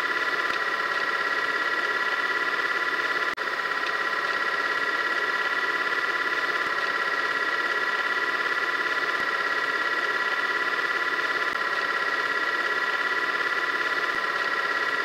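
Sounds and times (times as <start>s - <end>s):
fluttering buzzing drone: 0.0s - 15.0s.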